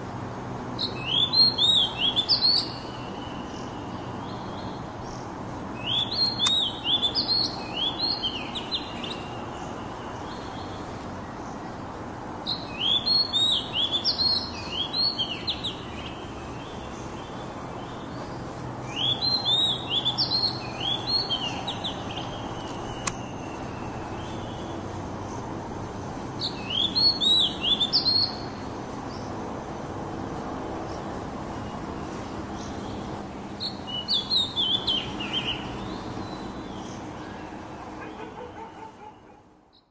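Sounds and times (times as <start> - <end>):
bird chirping: 0.8 - 11.7, 12.5 - 25.4, 26.0 - 29.4, 30.9 - 39.9.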